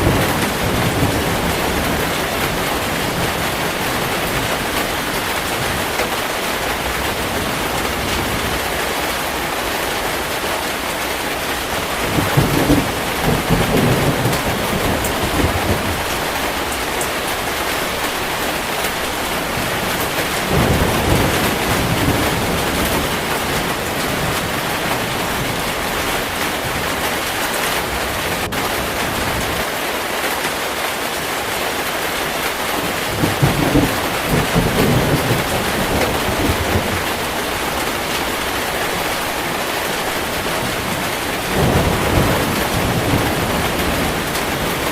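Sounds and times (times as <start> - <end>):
thunder rolling: 0.0 - 8.8, 11.5 - 29.7, 32.7 - 44.9
heavy rain: 0.0 - 44.9.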